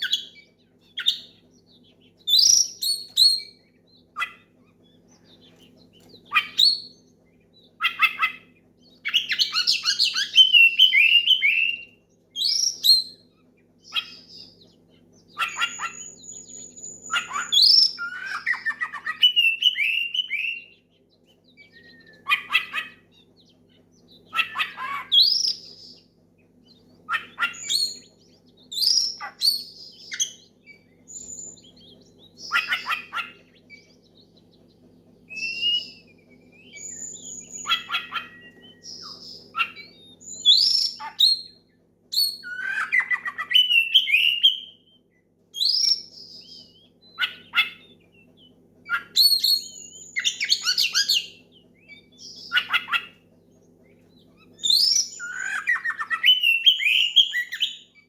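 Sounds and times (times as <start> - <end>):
magpie-robin singing: 0.0 - 58.0.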